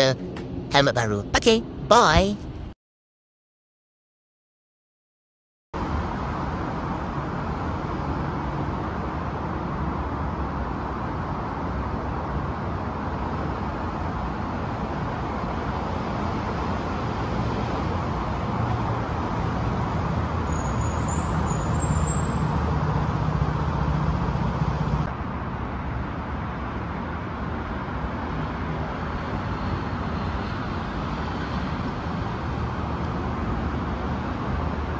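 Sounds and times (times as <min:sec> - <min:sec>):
street traffic: 0:00.0 - 0:02.8, 0:05.8 - 0:34.9.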